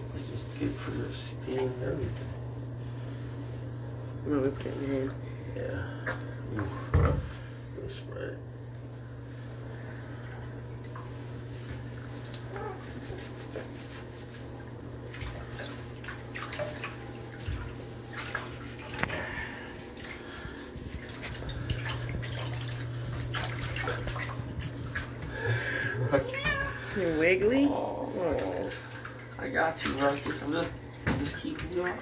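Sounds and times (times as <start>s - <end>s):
steady low hum: 0.0s - 32.0s
water splashing in a bathtub: 0.0s - 32.0s.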